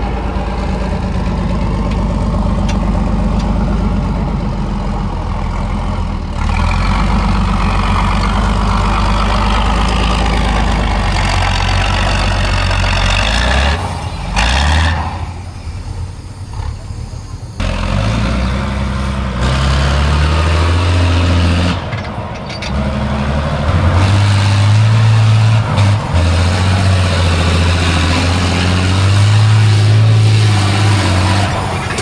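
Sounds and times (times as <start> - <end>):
diesel truck engine under load: 0.0 - 32.0.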